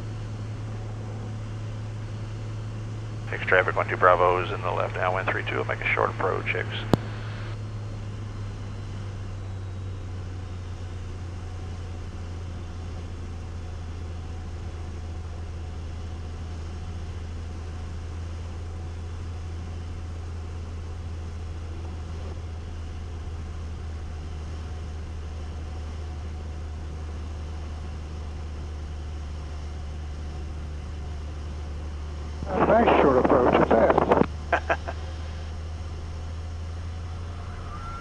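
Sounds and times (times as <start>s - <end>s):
plane engine and propeller drone: 0.0s - 38.0s.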